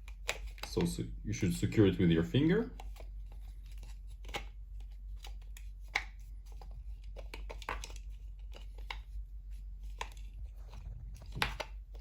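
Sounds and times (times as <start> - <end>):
light clicks and rustles of plastic parts: 0.0 - 1.1, 2.4 - 12.0.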